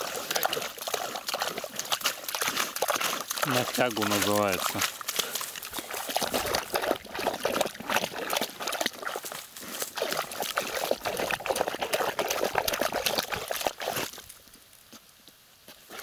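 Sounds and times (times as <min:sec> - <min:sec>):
dog digging in muddy water: 0:00.0 - 0:14.4.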